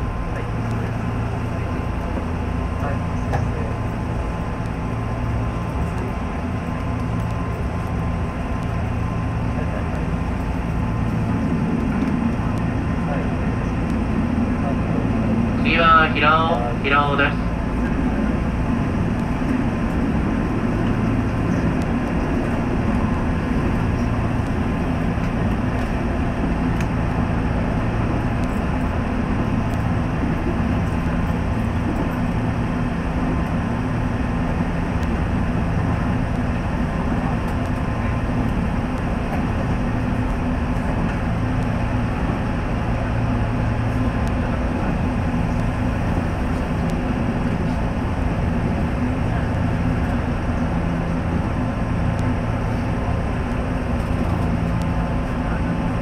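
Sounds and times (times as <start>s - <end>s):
electric train running on rails: 0.0s - 56.0s
low even hum: 0.0s - 56.0s.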